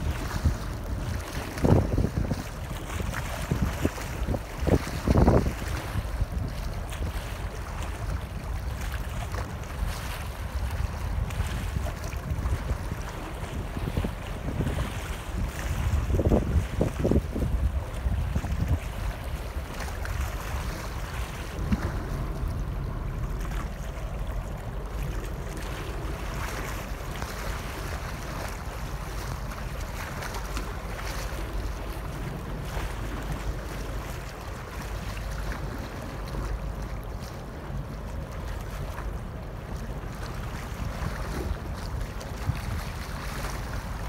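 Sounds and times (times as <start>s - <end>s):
choppy water washing: 0.0s - 44.0s
wind buffeting microphone: 0.0s - 44.0s.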